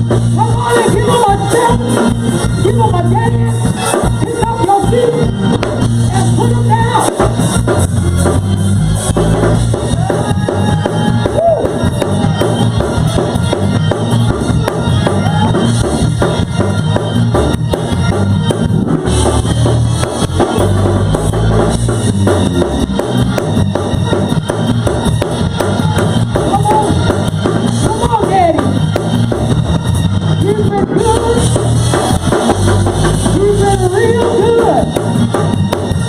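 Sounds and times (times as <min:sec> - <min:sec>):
drum kit beat: 0:00.0 - 0:36.0
heavy bass: 0:00.0 - 0:36.0
live gospel band playing: 0:00.0 - 0:36.0.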